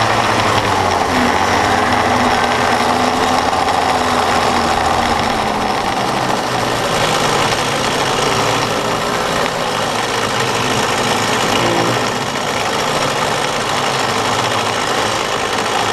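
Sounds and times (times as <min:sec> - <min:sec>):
go-kart engine running at low revs: 0:00.0 - 0:15.9.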